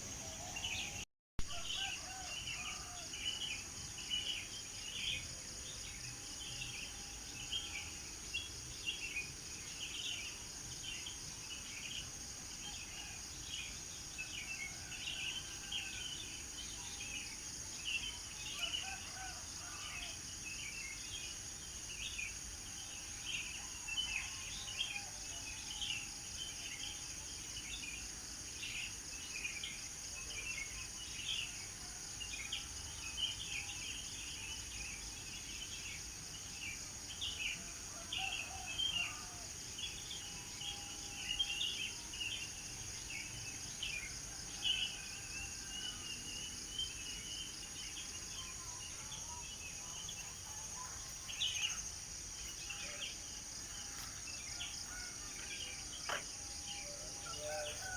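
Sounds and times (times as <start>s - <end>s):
insects chorus: 0.0s - 57.9s.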